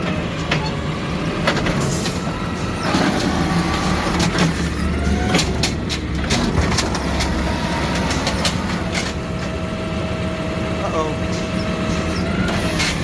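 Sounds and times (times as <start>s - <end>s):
garbage truck engine running: 0.0s - 13.0s.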